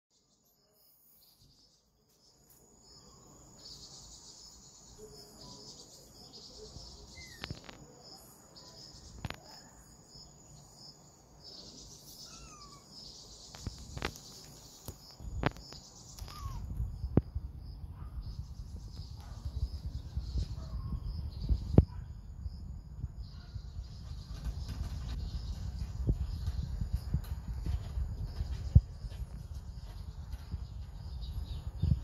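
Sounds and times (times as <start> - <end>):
insects chirping: 0.2 - 32.0.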